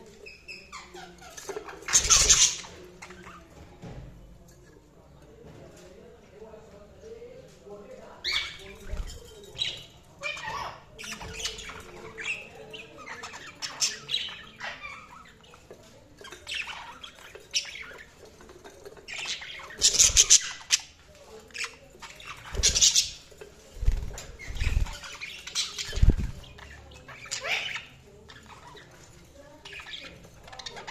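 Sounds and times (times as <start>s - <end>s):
budgerigars chirping and squawking: 0.2s - 3.6s, 8.2s - 30.9s.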